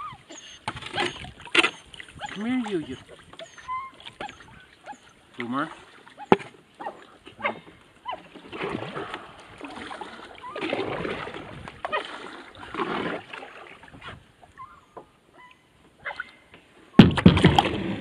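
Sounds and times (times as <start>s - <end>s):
water splashing in surges: 0.0s - 14.6s, 17.0s - 18.0s.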